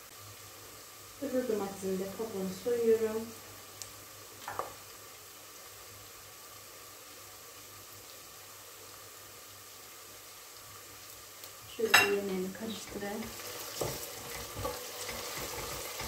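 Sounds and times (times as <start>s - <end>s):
garlic sizzling in oil: 0.0s - 16.0s.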